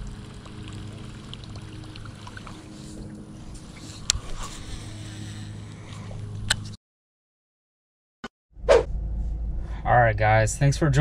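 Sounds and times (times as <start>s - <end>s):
steady low hum: 0.0s - 6.8s, 8.6s - 11.0s.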